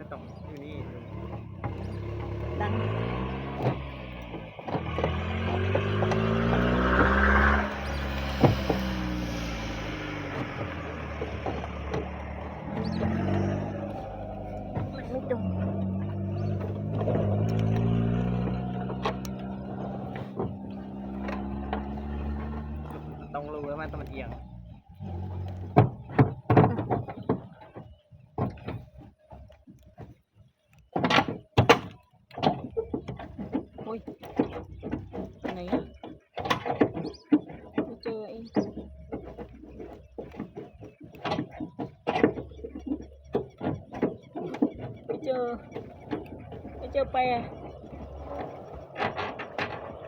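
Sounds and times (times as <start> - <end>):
vehicle engine running: 0.0 - 31.5, 32.6 - 50.0
sharp knocks: 1.2 - 24.5, 25.1 - 29.1, 30.9 - 50.0.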